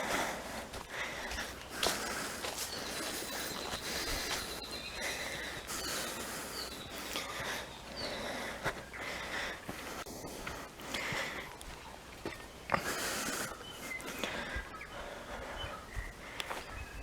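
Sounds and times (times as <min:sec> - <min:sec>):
person breathing heavily: 0:00.0 - 0:11.8, 0:12.7 - 0:16.7
birds calling: 0:00.0 - 0:17.0
footsteps on a bush track: 0:00.0 - 0:17.0.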